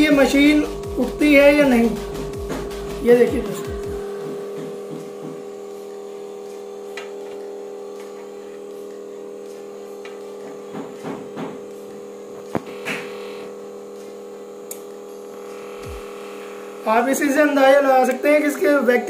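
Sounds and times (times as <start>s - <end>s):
vacuum pump motor humming: 0.0s - 19.0s.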